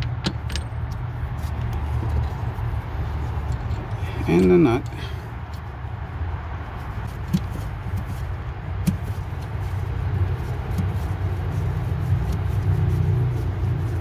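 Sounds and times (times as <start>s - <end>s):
vehicle motor rumble: 0.0s - 14.0s.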